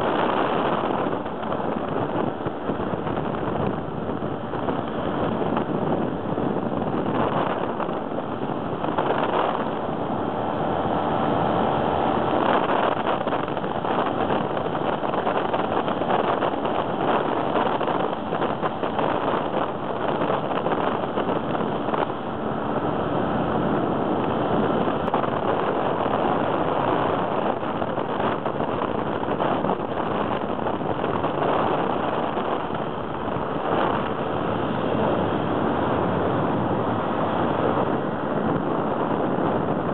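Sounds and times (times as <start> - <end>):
microlight engine rushing: 0.0 - 39.9
wind buffeting microphone: 0.0 - 39.9.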